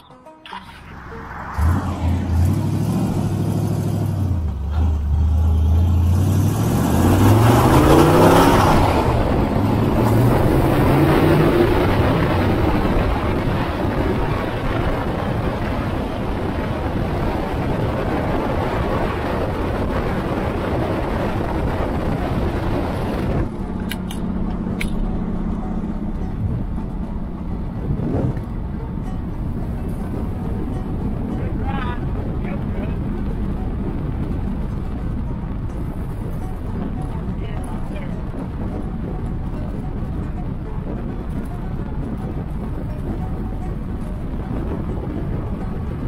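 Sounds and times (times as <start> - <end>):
wind and road noise: 0.0 - 46.0
car engine revving: 0.4 - 46.0.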